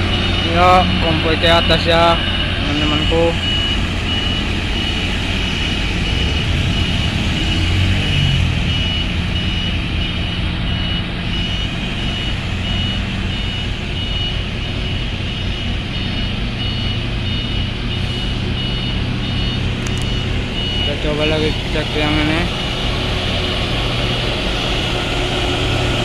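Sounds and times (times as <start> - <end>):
high beep: 0.0 - 24.2
diesel truck engines under load: 0.0 - 26.0.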